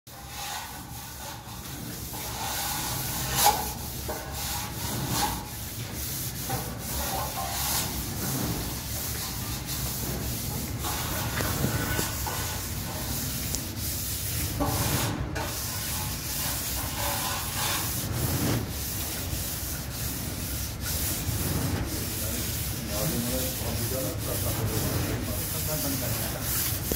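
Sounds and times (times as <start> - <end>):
hand float scraping plaster wall: 0.1 - 26.9.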